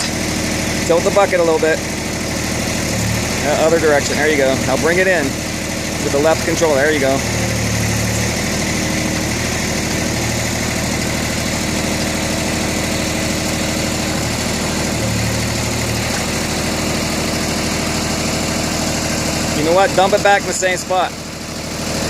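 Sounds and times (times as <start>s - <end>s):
hydraulics low hum: 0.0s - 22.0s
tractor diesel engine running: 0.0s - 22.0s.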